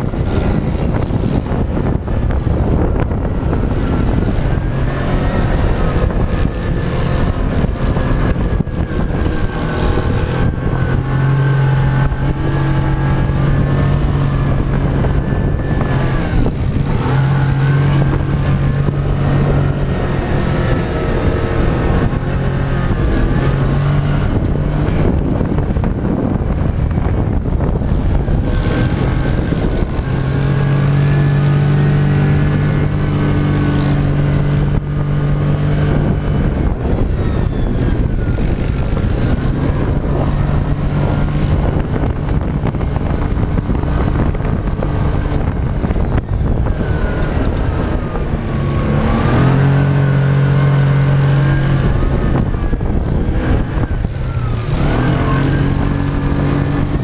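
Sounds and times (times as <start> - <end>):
dune buggy engine running: 0.0 - 57.0.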